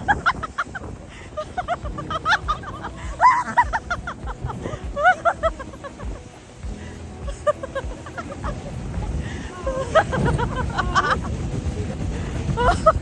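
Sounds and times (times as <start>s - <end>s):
people shrieking and laughing: 0.0s - 13.0s
rushing air and snow: 0.0s - 13.0s.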